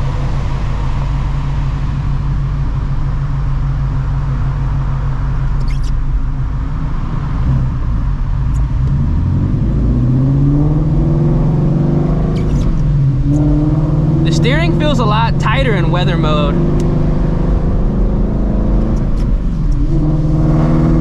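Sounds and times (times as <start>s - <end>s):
car engine heard from inside: 0.0s - 21.0s.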